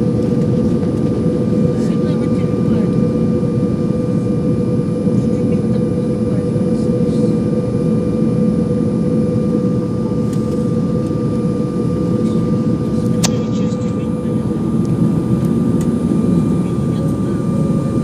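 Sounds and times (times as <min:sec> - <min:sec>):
airliner engines and airflow rush: 0:00.0 - 0:18.0
constant cabin hum: 0:00.0 - 0:18.0.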